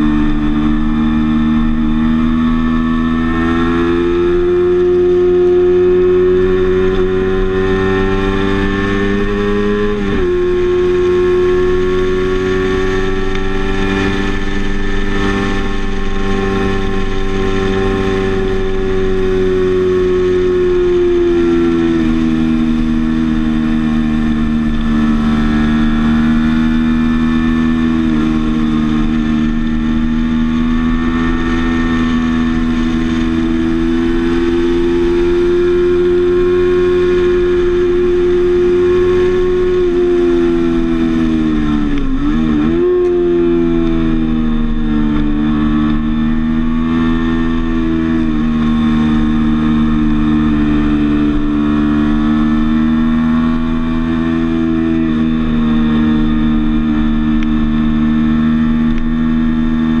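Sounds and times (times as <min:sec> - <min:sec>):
motorcycle engine revving high: 0:00.0 - 1:00.0
wind and road noise: 0:00.0 - 1:00.0.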